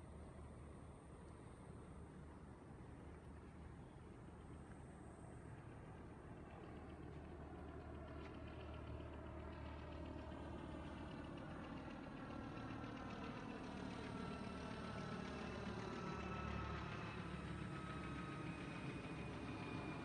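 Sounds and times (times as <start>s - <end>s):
faint engine whine: 0.0s - 20.0s.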